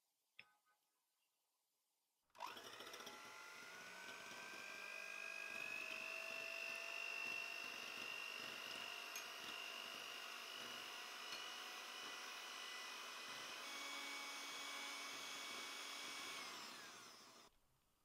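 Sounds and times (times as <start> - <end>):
electric hand mixer whining: 2.4 - 17.5.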